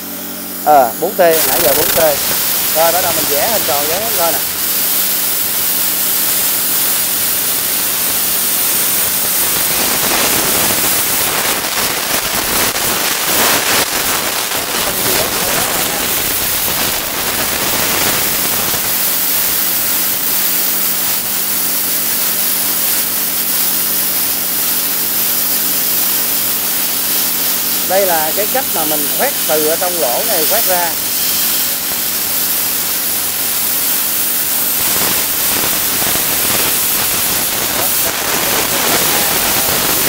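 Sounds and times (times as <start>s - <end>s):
plasma cutter hissing: 0.0s - 40.0s.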